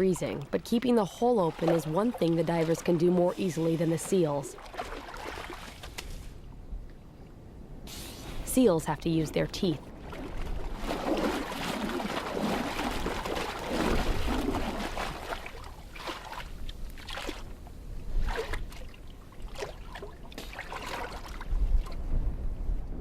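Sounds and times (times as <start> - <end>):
water sloshing and splashing: 0.0 - 6.5, 9.4 - 22.1.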